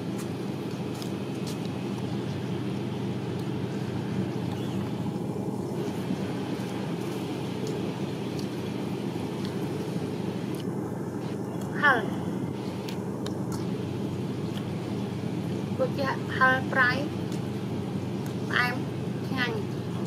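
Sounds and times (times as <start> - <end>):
low mechanical drone: 0.0 - 20.0.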